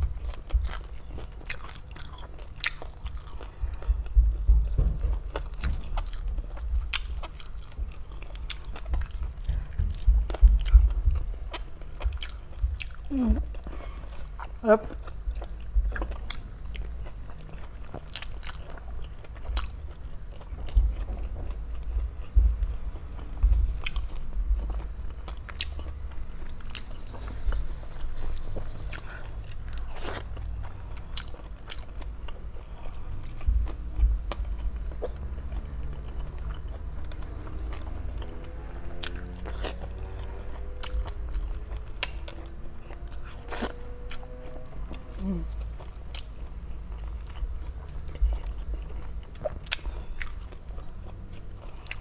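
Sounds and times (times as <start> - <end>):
chewing: 0.0 - 52.0
crunching of crispy food: 0.0 - 52.0.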